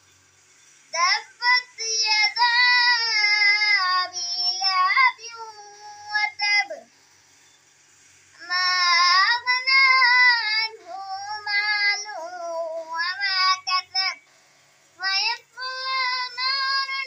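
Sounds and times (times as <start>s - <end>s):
boy chanting melodically: 0.9s - 7.1s, 8.3s - 14.4s, 15.0s - 17.0s.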